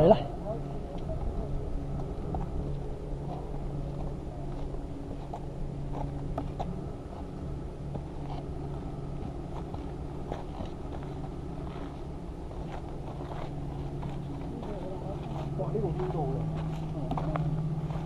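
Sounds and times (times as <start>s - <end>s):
steady low hum: 0.0s - 18.0s
footsteps on gritty path: 1.1s - 18.0s.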